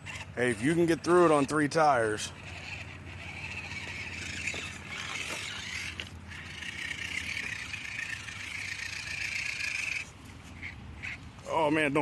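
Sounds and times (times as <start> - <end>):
rc car motor whining: 0.0 - 11.5.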